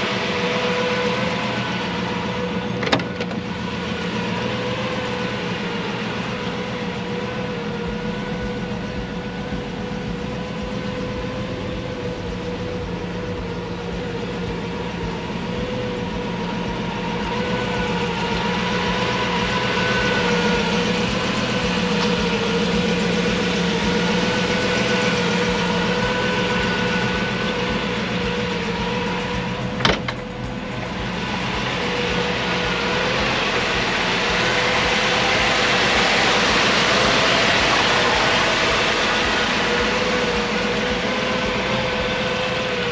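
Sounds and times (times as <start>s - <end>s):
car engine idling: 0.0s - 42.9s
steady whine: 0.0s - 42.9s.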